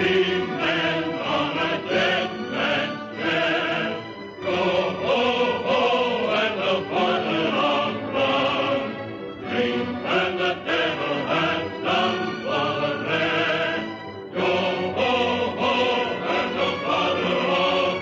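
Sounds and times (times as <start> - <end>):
choir singing with music: 0.0 - 18.0.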